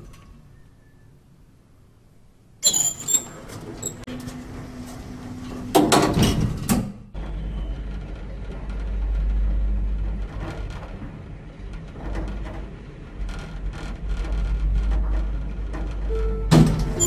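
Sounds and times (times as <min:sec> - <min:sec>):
lift doors sliding shut: 0:02.6 - 0:17.0.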